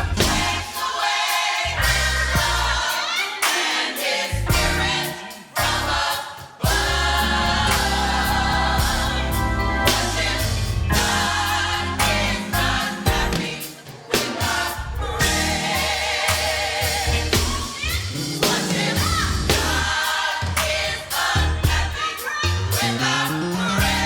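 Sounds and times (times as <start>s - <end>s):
instrumental backing with bass: 0.0s - 0.8s, 1.7s - 3.0s, 4.3s - 13.7s, 14.5s - 24.0s
gospel choir singing: 0.0s - 24.0s.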